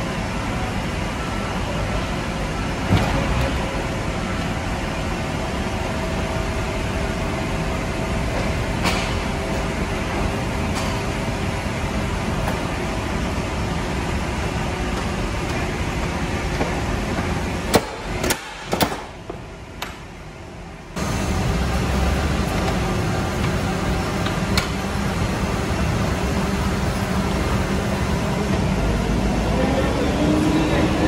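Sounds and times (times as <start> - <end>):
machinery hum and rumble: 0.0 - 31.0.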